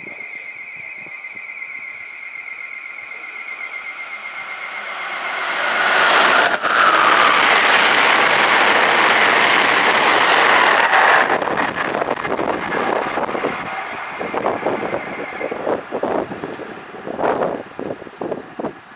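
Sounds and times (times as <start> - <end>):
passenger train passing at speed: 0.0 - 18.9
train cars rattling: 2.2 - 18.9.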